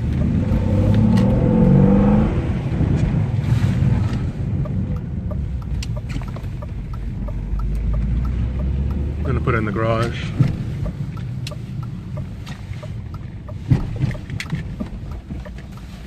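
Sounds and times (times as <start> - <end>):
car engine accelerating: 0.0 - 16.0
road noise inside car: 0.0 - 16.0.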